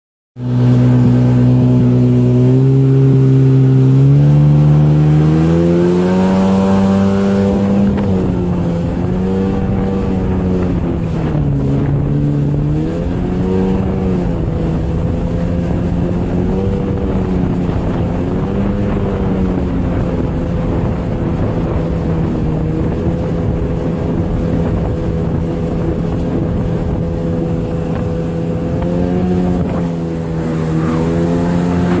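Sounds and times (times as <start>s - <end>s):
jet ski engine droning: 0.4s - 32.0s.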